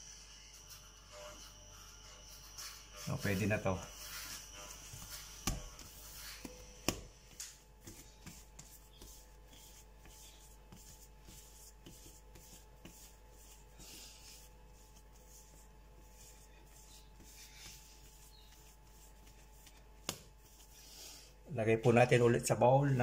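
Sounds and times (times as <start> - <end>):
hands rubbing bread dough: 0.1 - 21.4.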